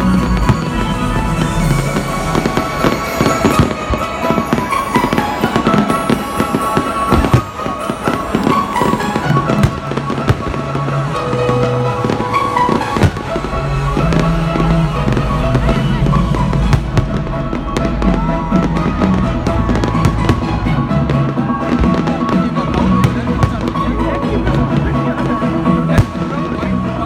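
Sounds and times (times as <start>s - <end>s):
fireworks bangs and crackles: 0.0s - 27.0s
loud music playing: 0.0s - 27.0s.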